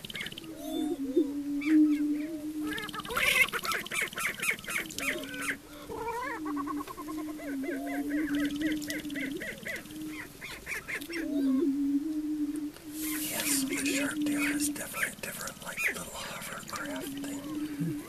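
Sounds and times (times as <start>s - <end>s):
birds cackling and whooping: 0.0s - 18.0s
low hooting hum: 0.4s - 18.0s.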